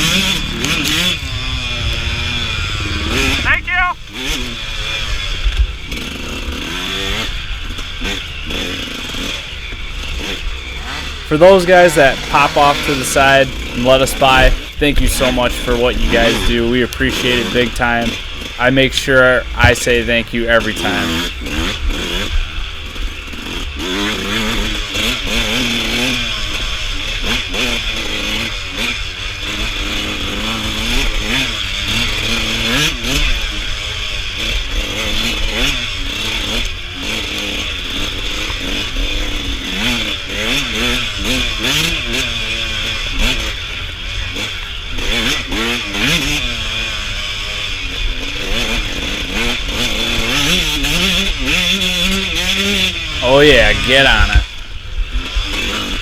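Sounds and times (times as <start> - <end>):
dirt bike engine revving: 0.0 - 56.0
wind and riding noise: 0.0 - 56.0.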